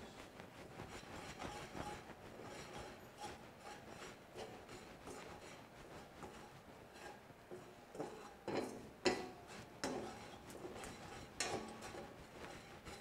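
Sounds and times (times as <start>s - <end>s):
spatula scraping frying pan: 0.0s - 13.0s.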